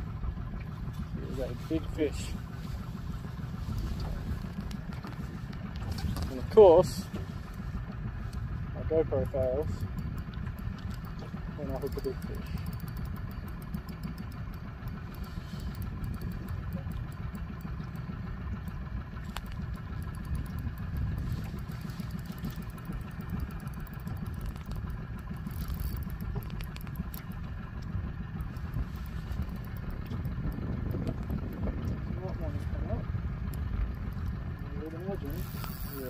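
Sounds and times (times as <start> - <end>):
outboard motor idling: 0.0 - 36.0.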